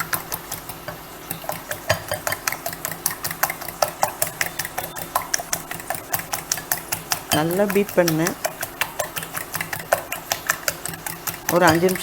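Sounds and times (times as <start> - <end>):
steady low hum: 0.0 - 12.0
whisk clicking against bowl: 0.0 - 12.0.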